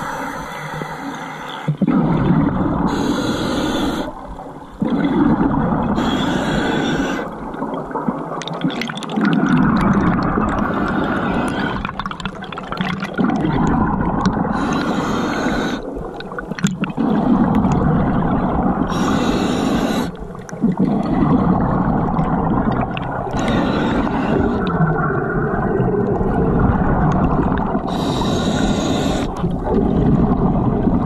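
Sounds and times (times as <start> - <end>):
diver exhaling bubbles underwater: 1.7 - 4.2, 4.8 - 31.0.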